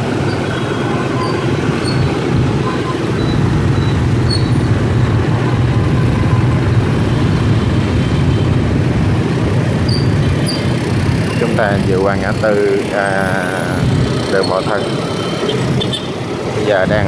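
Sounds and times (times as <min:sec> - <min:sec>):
dense city traffic: 0:00.0 - 0:17.0
motor scooter engines droning: 0:00.0 - 0:17.0.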